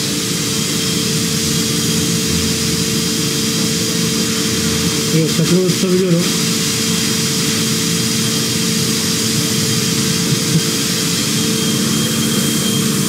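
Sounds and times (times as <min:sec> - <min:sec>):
machine hiss and hum: 0:00.0 - 0:13.0.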